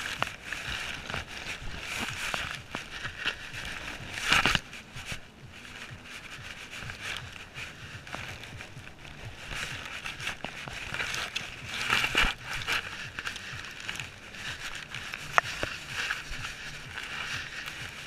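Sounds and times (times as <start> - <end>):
leaves and grass rustling: 0.0 - 18.0.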